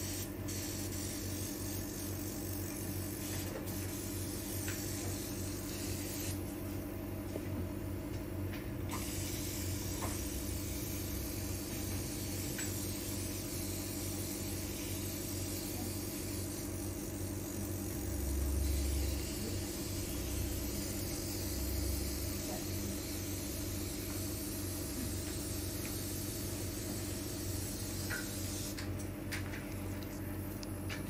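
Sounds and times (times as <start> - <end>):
low background hum with hiss: 0.0 - 31.0.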